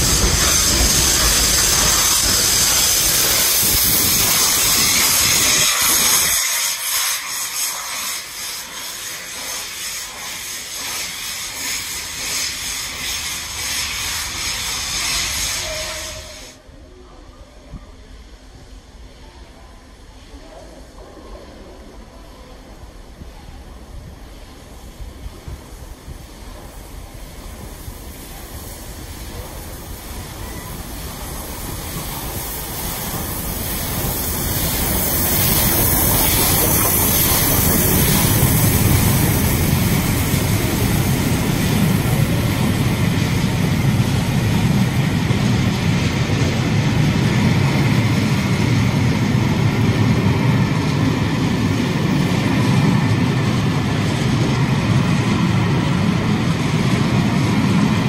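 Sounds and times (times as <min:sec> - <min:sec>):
steam locomotive passing: 0:00.0 - 0:58.0.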